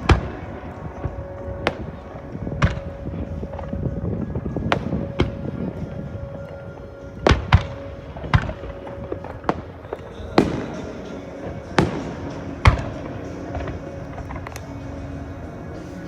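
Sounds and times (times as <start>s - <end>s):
music playing: 0.0s - 16.0s.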